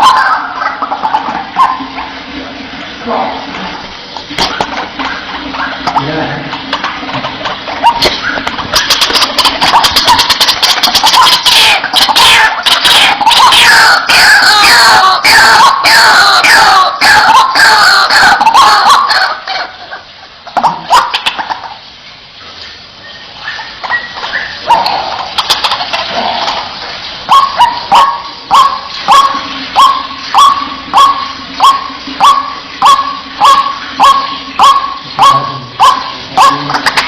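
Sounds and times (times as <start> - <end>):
waterhen harsh calls: 0.0 - 22.1, 22.8 - 37.0.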